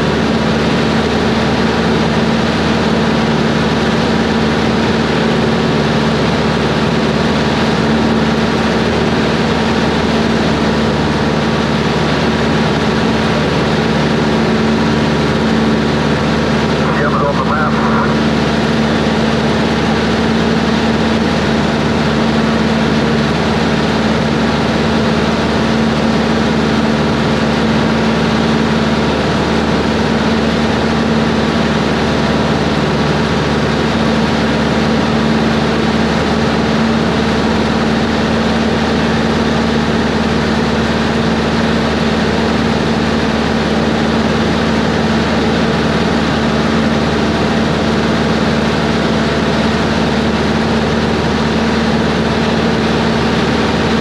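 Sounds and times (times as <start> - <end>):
light aircraft engine droning in cabin: 0.0 - 54.0.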